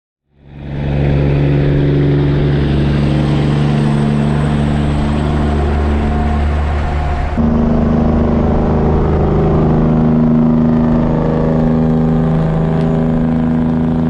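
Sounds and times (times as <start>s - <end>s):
diesel truck engine droning: 0.3s - 14.0s.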